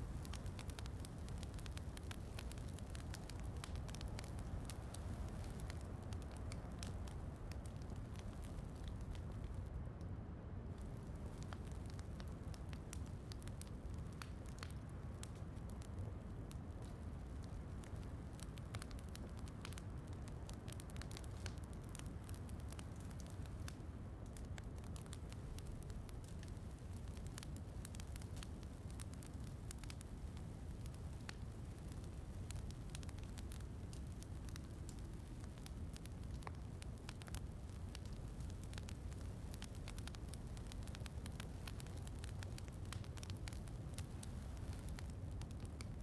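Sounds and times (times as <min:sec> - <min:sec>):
low rumble of rain: 0:00.0 - 0:46.0
wood fire crackling: 0:00.0 - 0:46.0.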